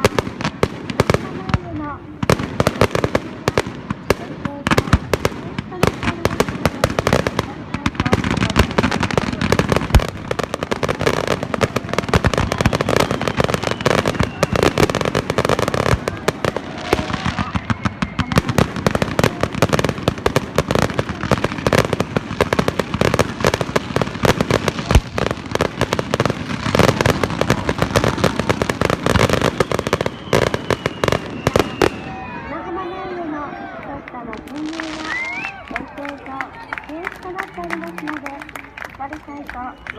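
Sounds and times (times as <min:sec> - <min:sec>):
fireworks bang: 0:00.0 - 0:32.6
fireworks crackling: 0:00.0 - 0:39.9.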